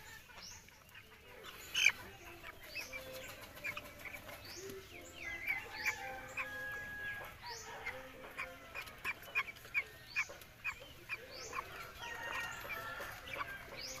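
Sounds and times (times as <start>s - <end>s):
chickens peeping and clucking: 0.0s - 14.0s.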